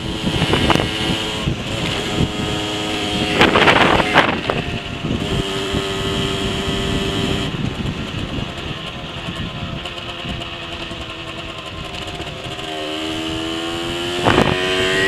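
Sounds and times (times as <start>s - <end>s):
two-stroke moped engine running: 0.0s - 15.0s
wind rushing over microphone: 0.0s - 15.0s.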